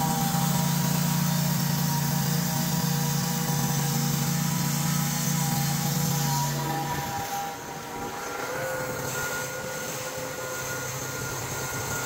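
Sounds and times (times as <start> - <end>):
sawmill engine drone: 0.0 - 12.0.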